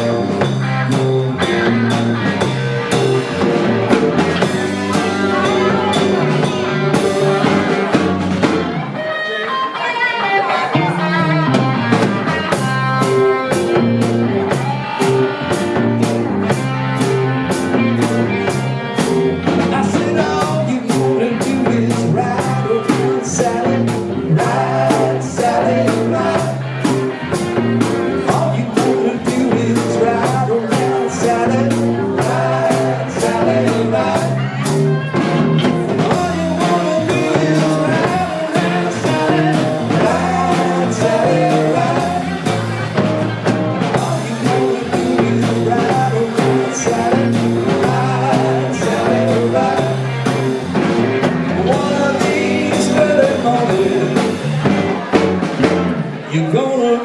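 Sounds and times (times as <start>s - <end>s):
repeating bass line: 0.0s - 9.0s, 10.4s - 56.2s
steady drum beat: 0.0s - 9.0s, 11.4s - 56.1s
live rock and roll band: 0.0s - 57.0s.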